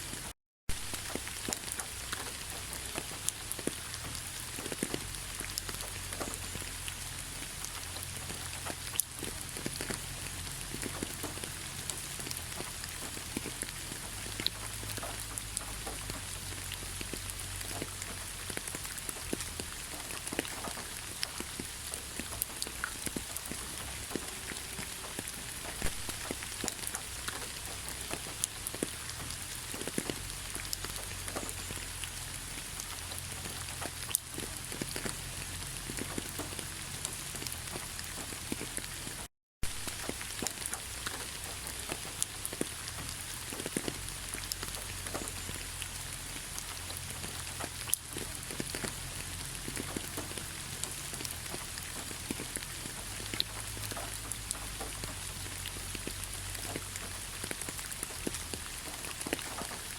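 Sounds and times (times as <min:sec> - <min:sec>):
heavy rain falling: 0:00.0 - 0:59.9
sharp rain drop ticks: 0:00.7 - 0:59.9.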